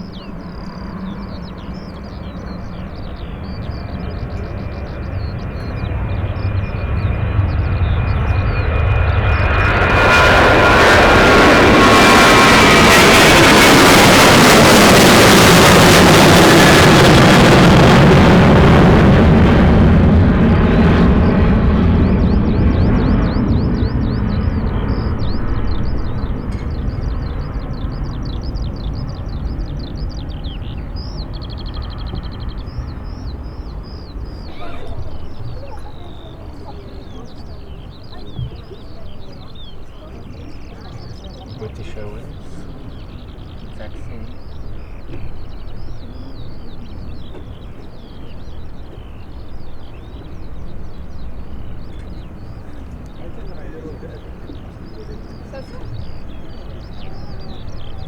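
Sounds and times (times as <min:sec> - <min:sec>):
small birds chirping: 0:00.0 - 0:19.5, 0:20.5 - 0:58.0
jet engine rumble: 0:00.0 - 0:58.0.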